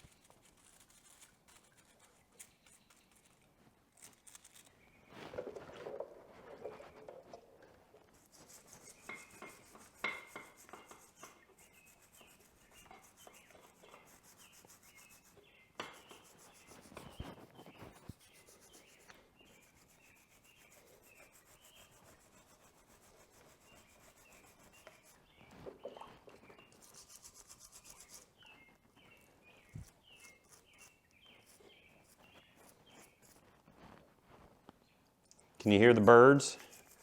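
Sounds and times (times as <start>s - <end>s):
bird chirping: 0.0s - 7.4s, 8.6s - 22.5s, 23.6s - 33.5s
brush scrubbing dirt: 0.0s - 34.6s, 35.6s - 37.0s.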